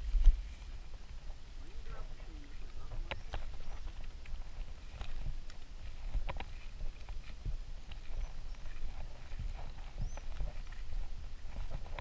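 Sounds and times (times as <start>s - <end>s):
footsteps on dirt and grass: 0.0s - 12.0s.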